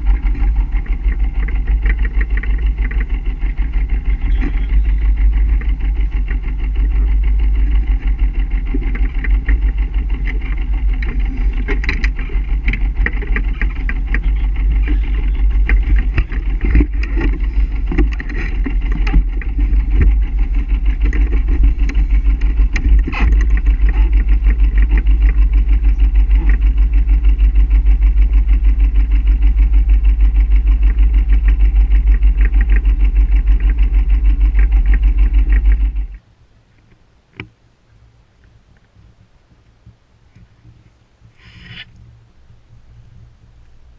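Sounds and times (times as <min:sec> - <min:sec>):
boat engine throbbing: 0:00.0 - 0:36.2, 0:38.6 - 0:43.9.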